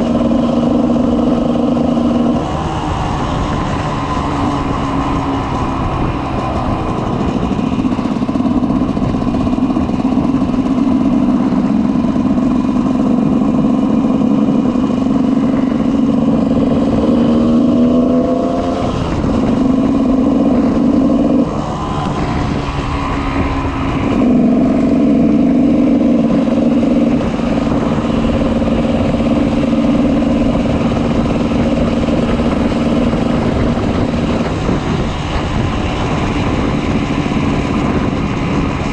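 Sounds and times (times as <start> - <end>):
two-stroke motorcycle engine: 0.0 - 38.9.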